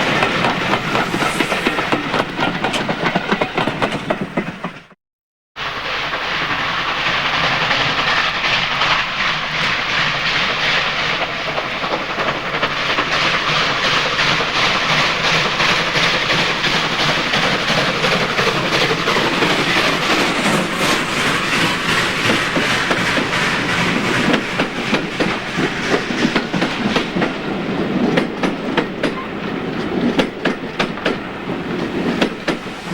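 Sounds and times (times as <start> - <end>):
train wheels clattering: 6.0 - 32.9.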